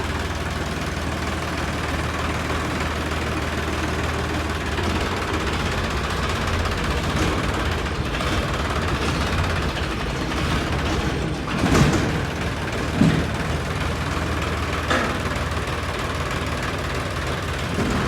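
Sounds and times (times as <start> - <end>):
tractor diesel engine rumbling: 0.0 - 18.0.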